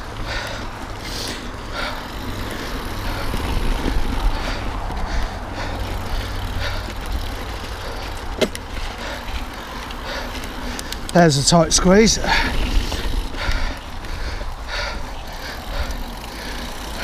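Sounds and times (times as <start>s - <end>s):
bike tyres rumbling on trail: 0.0s - 17.0s
wind buffeting microphone: 0.0s - 17.0s.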